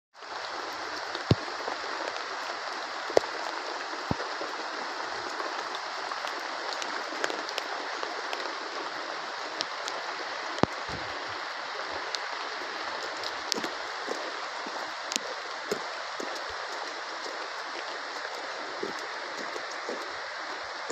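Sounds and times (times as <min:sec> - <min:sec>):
heavy rain falling: 0:00.2 - 0:20.9.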